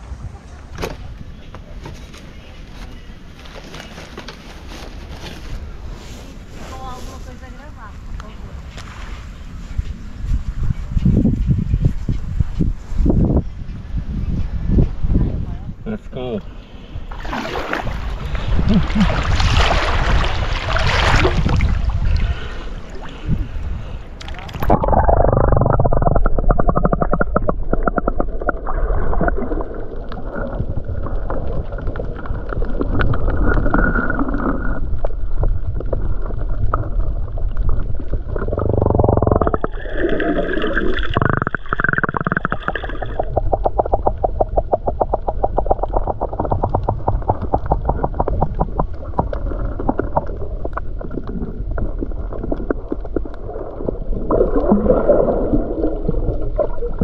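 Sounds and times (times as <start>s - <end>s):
muffled underwater water movement: 0.0s - 57.0s
fine underwater crackle: 0.4s - 13.2s, 19.3s - 57.0s.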